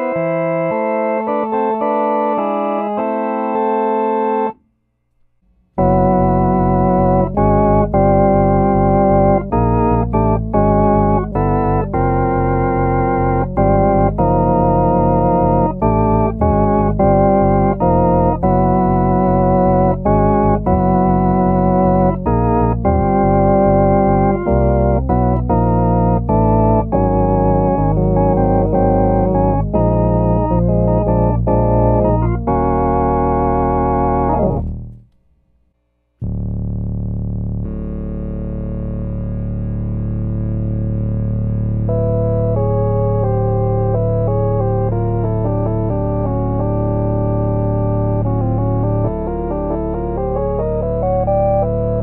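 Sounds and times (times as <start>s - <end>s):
organ chords with vibrato: 0.0s - 4.6s, 5.8s - 35.0s, 36.2s - 52.0s
organ pedal bass notes: 0.0s - 4.6s, 5.8s - 35.2s, 36.2s - 52.0s.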